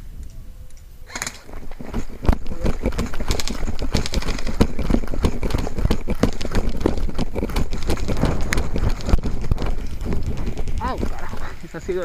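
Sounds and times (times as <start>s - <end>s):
running footsteps on stony dirt: 1.5s - 12.0s.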